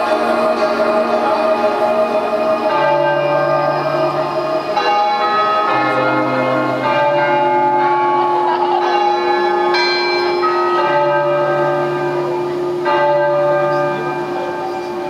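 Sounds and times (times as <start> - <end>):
bells ringing: 0.0 - 15.0.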